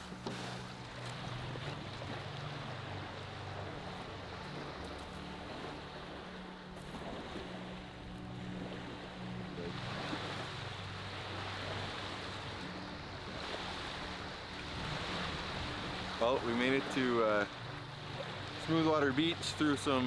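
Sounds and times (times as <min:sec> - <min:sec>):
lake water splashing: 0:00.0 - 0:20.0.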